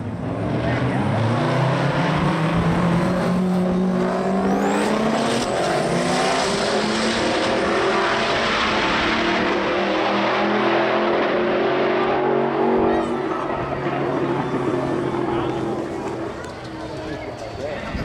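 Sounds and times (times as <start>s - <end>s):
race car engines accelerating: 0.0s - 18.0s.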